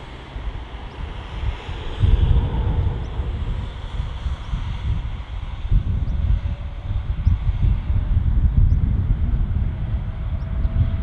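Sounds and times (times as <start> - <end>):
distant jet aircraft: 0.0 - 11.0
wind gusting on microphone: 0.0 - 11.0.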